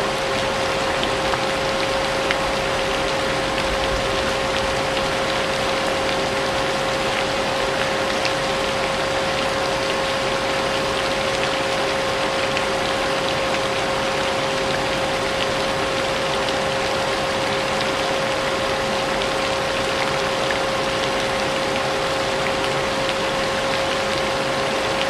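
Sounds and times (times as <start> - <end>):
falling rain: 0.0 - 25.0.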